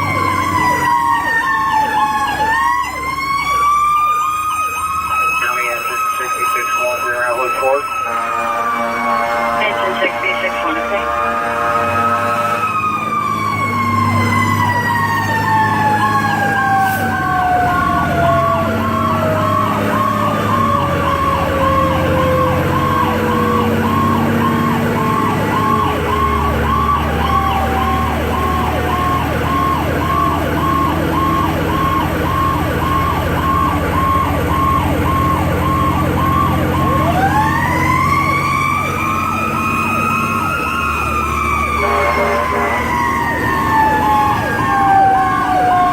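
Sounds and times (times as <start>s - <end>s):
electronic siren yelping: 0.0s - 45.9s
truck engine running: 0.0s - 45.9s.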